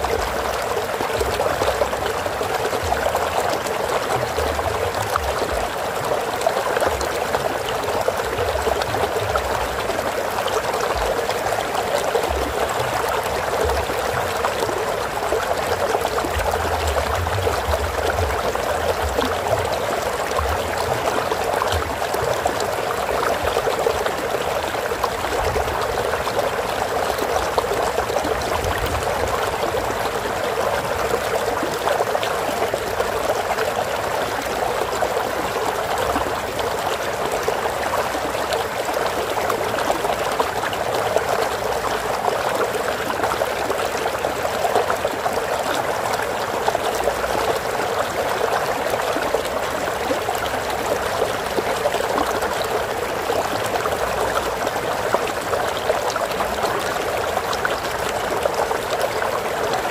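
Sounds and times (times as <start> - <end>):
water flowing in a stream: 0.0 - 59.9.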